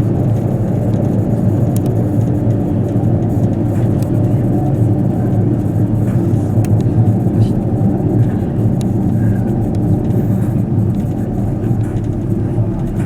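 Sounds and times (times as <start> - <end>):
diesel engines droning: 0.0 - 13.0
wheel-on-rail rumble: 0.0 - 13.0
faint clicks: 0.2 - 13.0.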